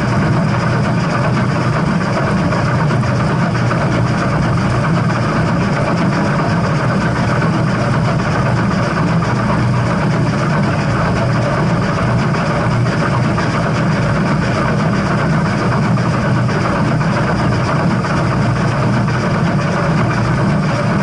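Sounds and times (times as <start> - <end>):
steam train rumbling: 0.0 - 21.0.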